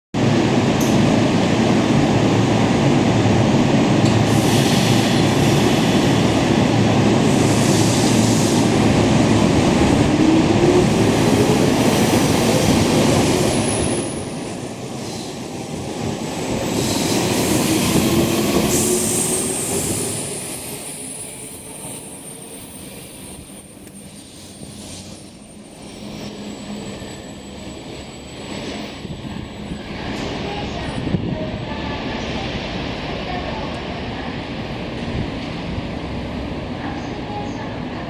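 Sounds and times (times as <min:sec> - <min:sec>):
train wheels rumbling: 0:00.8 - 0:38.0.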